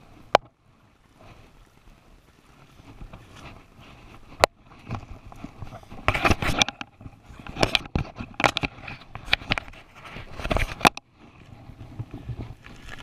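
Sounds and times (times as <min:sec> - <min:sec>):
rustling near microphone: 0:01.0 - 0:13.0.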